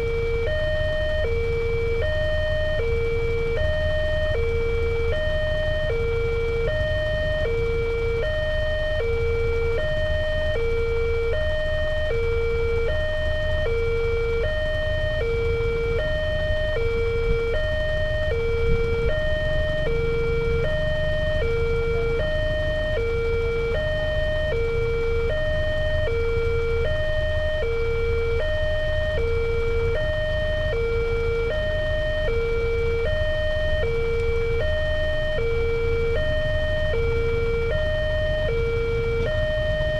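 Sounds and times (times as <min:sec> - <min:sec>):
two-tone level crossing siren: 0:00.0 - 0:39.9.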